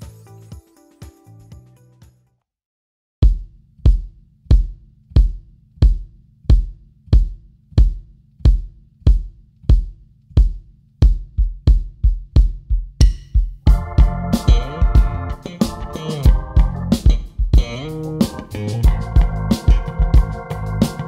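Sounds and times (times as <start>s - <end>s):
bass drum kicks: 3.2s - 21.0s.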